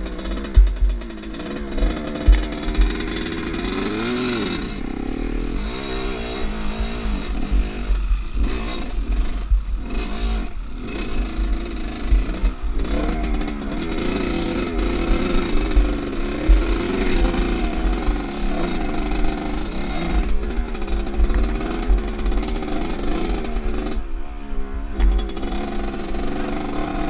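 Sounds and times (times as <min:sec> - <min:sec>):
wind rumbling on microphone: 0:00.0 - 0:23.1
motorcycle engine revving: 0:00.0 - 0:27.0.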